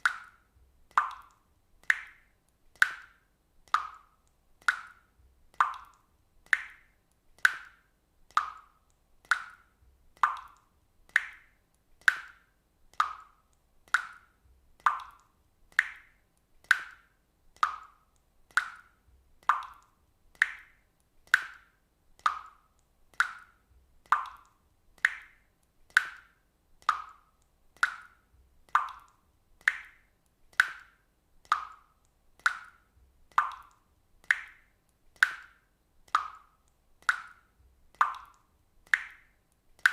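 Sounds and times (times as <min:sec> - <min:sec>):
water droplets dripping: 0:00.0 - 0:39.9.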